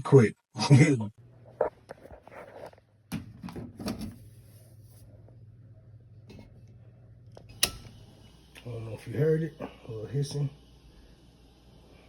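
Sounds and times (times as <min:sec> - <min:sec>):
steady low hum: 0:01.2 - 0:12.0.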